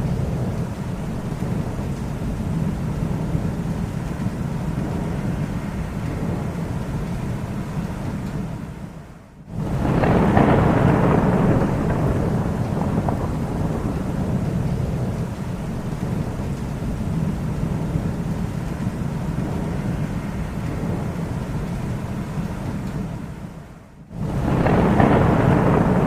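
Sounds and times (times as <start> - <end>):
thunder clap and rumble: 0.0 - 26.0.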